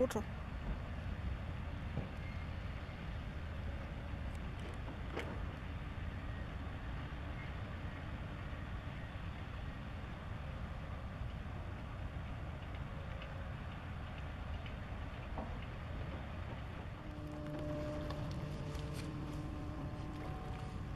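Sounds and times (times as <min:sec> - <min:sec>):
low outdoor rumble: 0:00.0 - 0:20.9.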